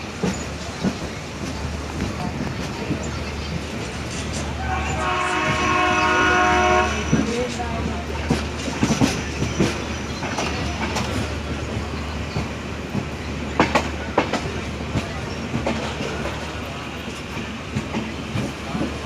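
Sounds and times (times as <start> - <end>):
train rumbling along track: 0.0 - 19.0
wheels clicking over rail joints: 0.0 - 19.0.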